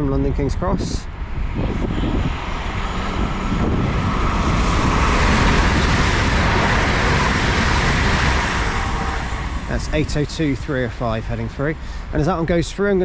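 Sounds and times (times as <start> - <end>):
train passing at speed: 0.6 - 13.0.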